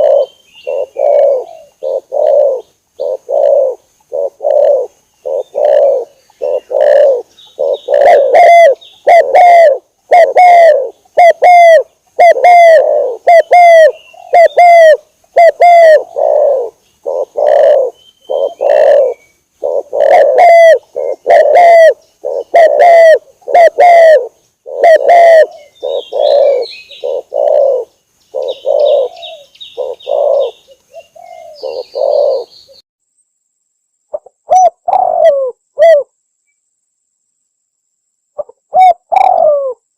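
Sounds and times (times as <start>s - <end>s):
dove cooing: 0.0s - 32.8s, 34.1s - 36.1s, 38.4s - 39.9s
small bird chirping faintly: 0.0s - 39.1s.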